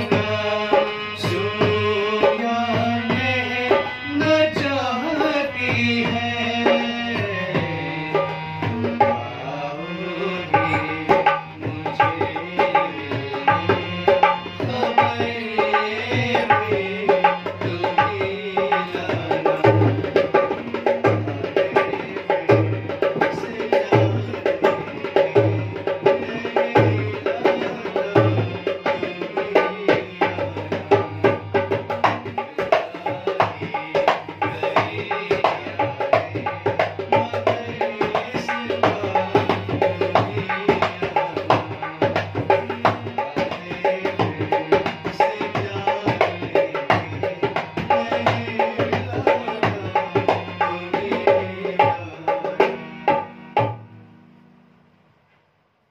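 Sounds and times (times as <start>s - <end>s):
dholak drum beat: 0.0s - 53.9s
harmonium melody: 0.0s - 55.0s.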